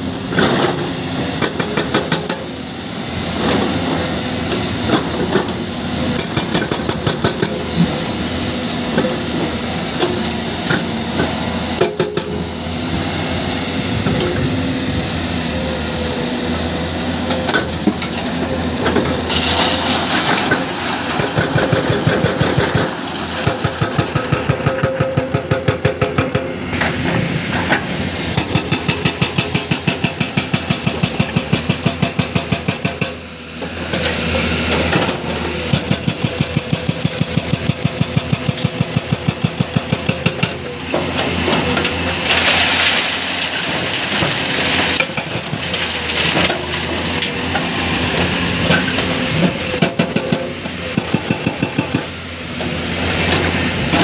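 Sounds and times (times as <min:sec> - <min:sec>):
diesel engine under load: 0:00.0 - 0:54.0
hydraulic breaker hammering rock: 0:00.3 - 0:02.6, 0:03.2 - 0:13.1, 0:17.2 - 0:54.0.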